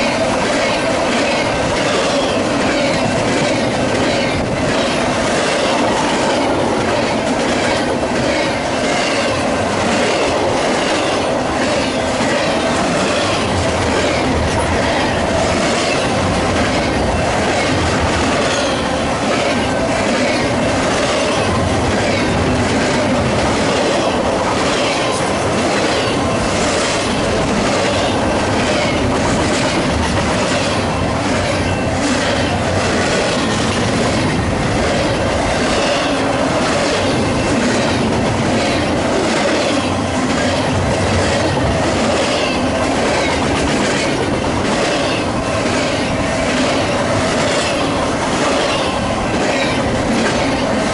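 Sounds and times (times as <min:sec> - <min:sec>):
freight train rolling past: 0:00.0 - 0:50.9.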